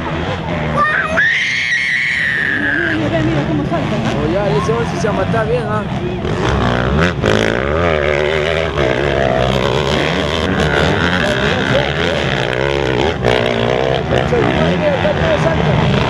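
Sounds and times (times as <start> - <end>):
motocross bikes revving: 0.0 - 16.0.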